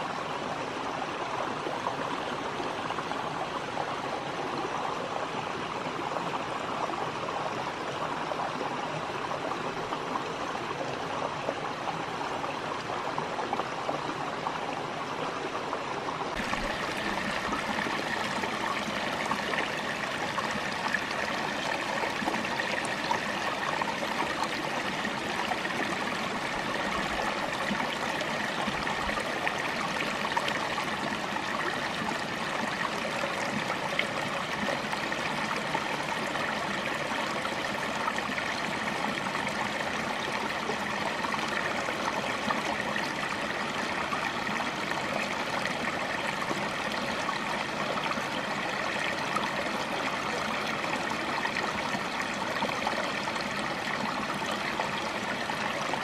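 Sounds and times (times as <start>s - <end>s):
brook babbling over stones: 0.0s - 56.0s.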